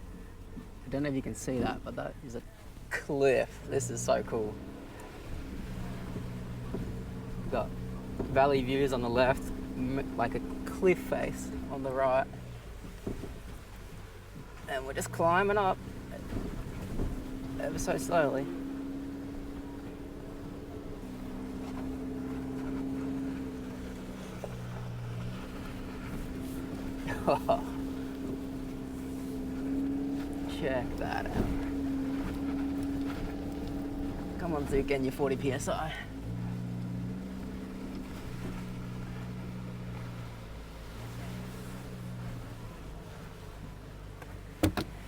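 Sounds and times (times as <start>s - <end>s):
car engine running at low revs: 0.0s - 45.0s.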